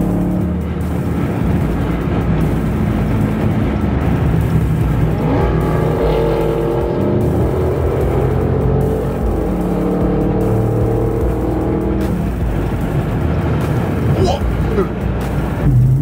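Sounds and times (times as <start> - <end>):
car engines droning at cruising speed: 0.0 - 16.0.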